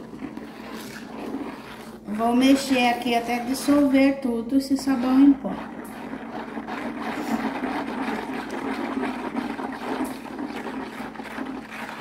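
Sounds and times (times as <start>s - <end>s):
spoon stirring water in basin: 0.0s - 12.0s.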